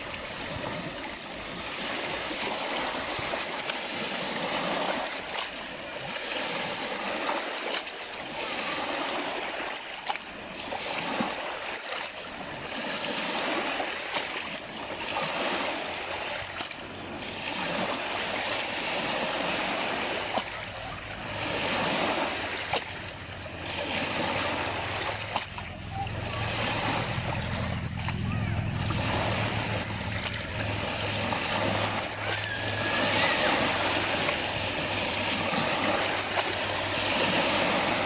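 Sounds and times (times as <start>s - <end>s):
small water splashes: 0.0s - 38.0s
waves lapping against shore: 0.0s - 38.0s.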